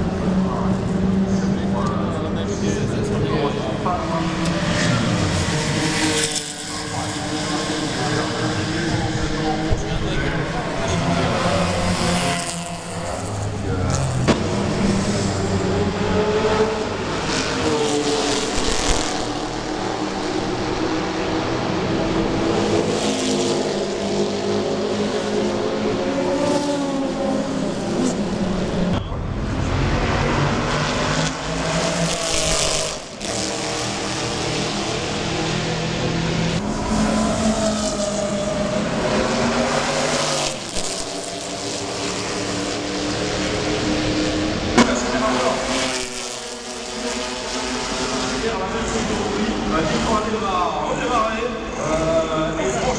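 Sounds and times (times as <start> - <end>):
racing car engine revving: 0.0 - 52.9.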